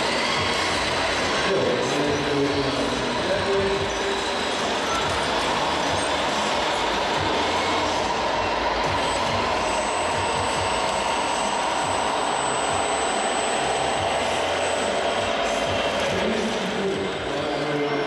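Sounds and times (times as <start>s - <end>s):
busy exhibition hall noise: 0.0s - 18.0s
rc model trucks running: 0.0s - 18.0s.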